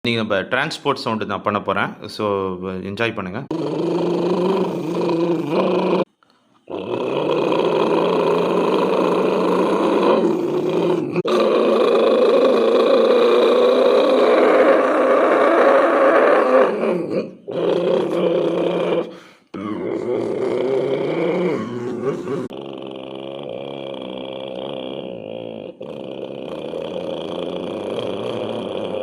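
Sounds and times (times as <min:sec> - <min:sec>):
man imitating engine noise: 0:03.5 - 0:06.1, 0:06.7 - 0:29.0.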